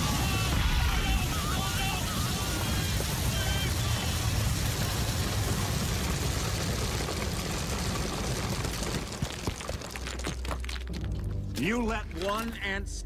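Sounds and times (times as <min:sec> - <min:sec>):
grain pouring down: 0:00.0 - 0:11.2.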